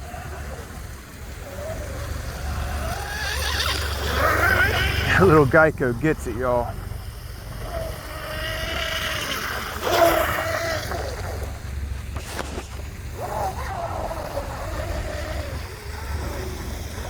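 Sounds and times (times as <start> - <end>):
rc boat motor whine: 0.0 - 17.0
wind and water rumble: 0.0 - 17.0.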